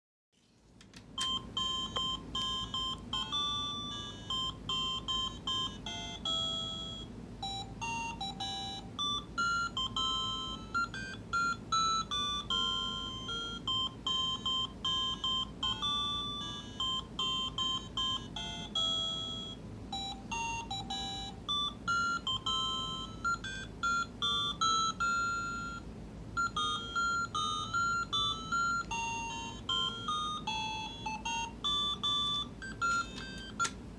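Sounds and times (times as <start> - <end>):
steady low hum: 0.4 - 33.9.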